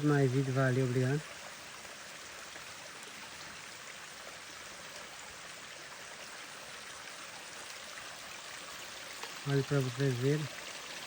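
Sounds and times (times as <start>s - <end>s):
rainwater running over rocks: 0.0s - 11.0s.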